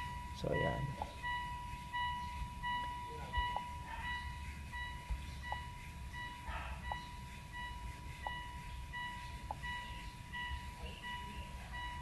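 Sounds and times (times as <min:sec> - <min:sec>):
steady high electronic tone: 0:00.0 - 0:12.0.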